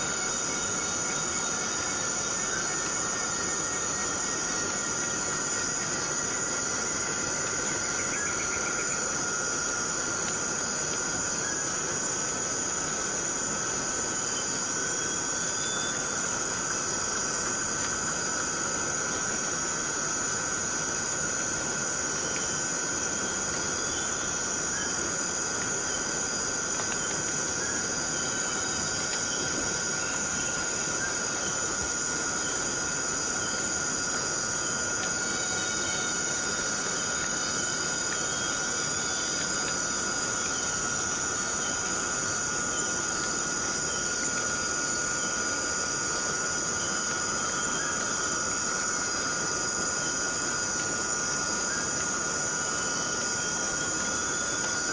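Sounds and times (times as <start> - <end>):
insects droning: 0.0 - 54.9
steady rain falling: 0.0 - 54.9.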